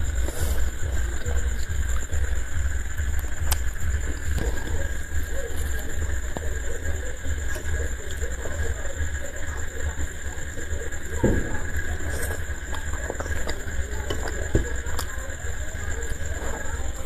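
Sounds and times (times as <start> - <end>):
soft eating sounds: 0.0 - 17.0
steady low rumble: 0.0 - 17.0.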